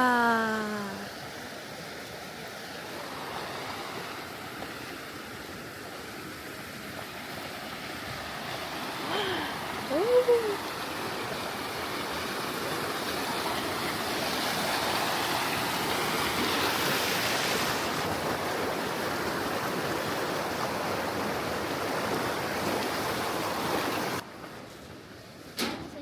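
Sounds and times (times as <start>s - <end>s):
rushing river water: 0.0s - 25.6s.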